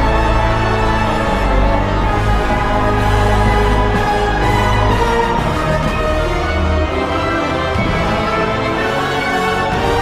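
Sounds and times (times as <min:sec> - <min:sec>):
spooky background music: 0:00.0 - 0:10.0.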